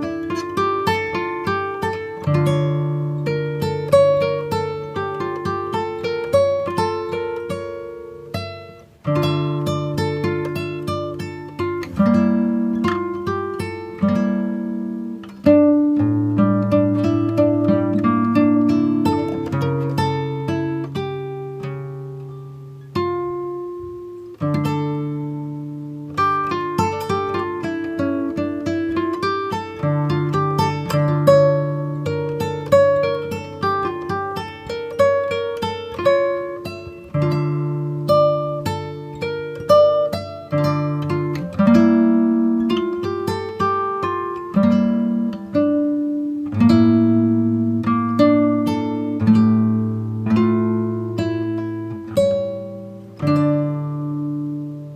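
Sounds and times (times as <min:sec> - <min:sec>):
plucked acoustic guitar music: 0:00.0 - 0:54.9.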